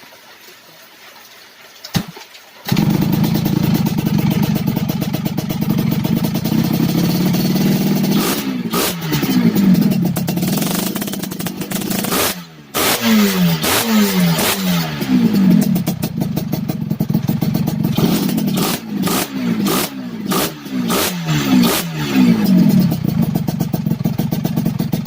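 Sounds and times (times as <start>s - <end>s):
motorcycle engine revving: 2.7s - 25.0s.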